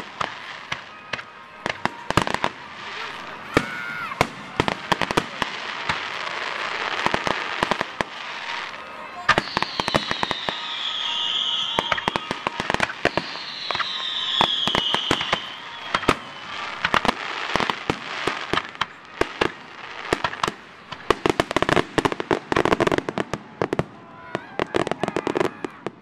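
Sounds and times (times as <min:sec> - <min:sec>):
falling firework whistles: 0:00.0 - 0:23.8
crackling firework pops: 0:00.0 - 0:23.9
fireworks bangs and pops: 0:00.0 - 0:26.0.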